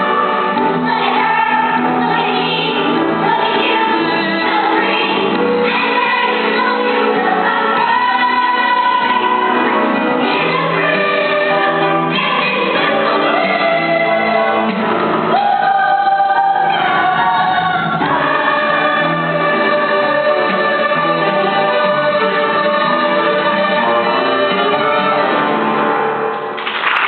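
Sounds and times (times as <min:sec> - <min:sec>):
chorus singing: 0:00.0 - 0:25.9.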